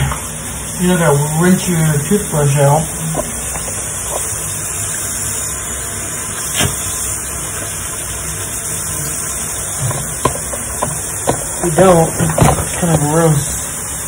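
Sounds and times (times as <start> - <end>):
toothbrush rinsed under water: 0.0 - 13.8
sink tap running: 0.0 - 14.0.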